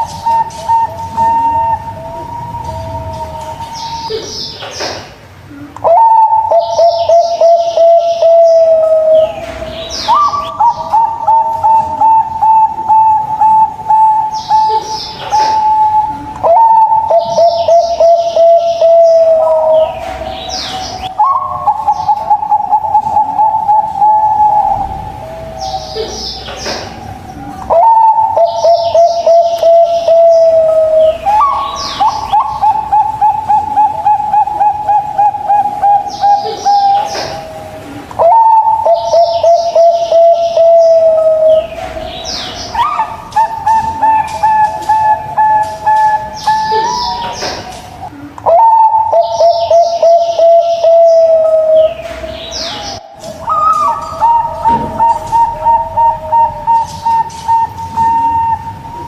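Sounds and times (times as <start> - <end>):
doves cooing: 0.0 - 59.0
small birds chirping: 0.0 - 59.0.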